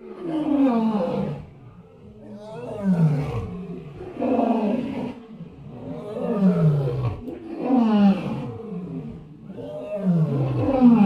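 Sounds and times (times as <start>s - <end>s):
lion roaring: 0.0s - 11.0s.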